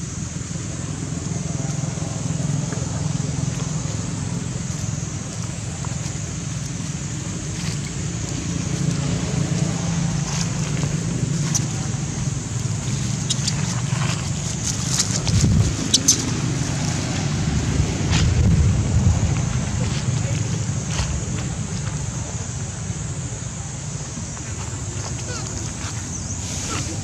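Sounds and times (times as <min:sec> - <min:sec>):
low rumble: 0:00.0 - 0:22.4.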